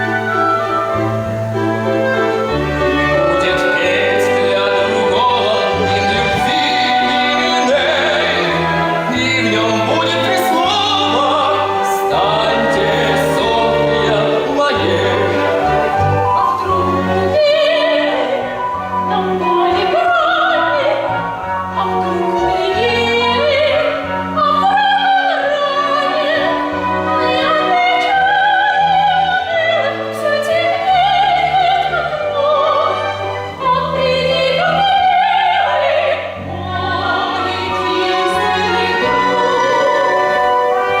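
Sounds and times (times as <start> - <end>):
operatic singing with vibrato: 0.0 - 41.0
symphony orchestra: 0.0 - 41.0.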